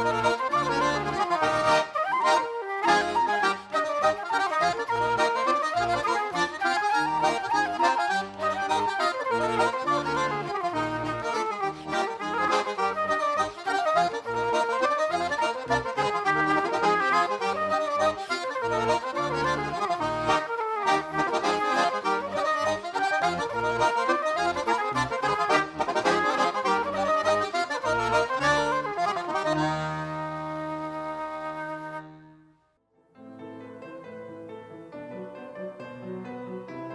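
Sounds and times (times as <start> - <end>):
accordion playing folk tune: 0.0 - 32.8.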